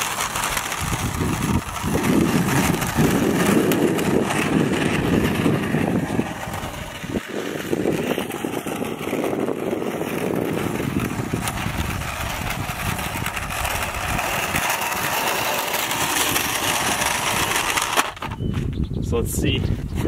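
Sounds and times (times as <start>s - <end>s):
golf cart driving on asphalt: 0.0s - 18.8s.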